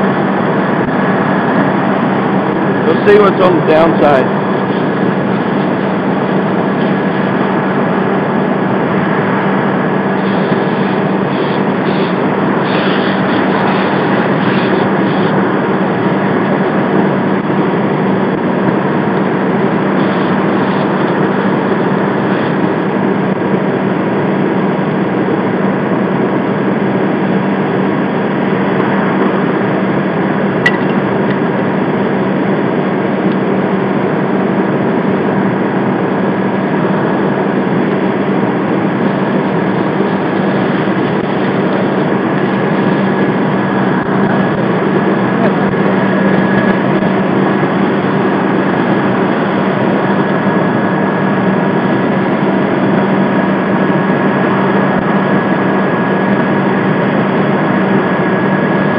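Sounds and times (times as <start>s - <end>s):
fire truck engine running: 0.0s - 58.9s.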